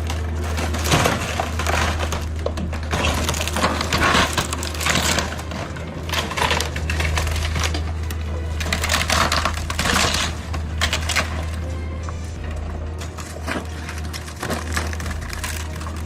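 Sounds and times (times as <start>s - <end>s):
clattering and crunching: 0.0s - 16.0s
low machine drone: 0.0s - 16.0s.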